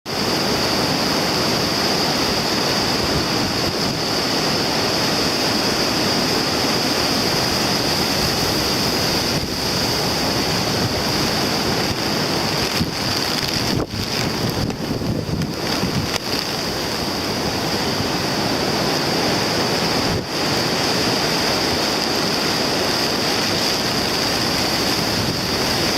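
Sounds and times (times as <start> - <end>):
rough surf: 0.1 - 25.9
strong wind buffeting microphone: 0.1 - 25.9.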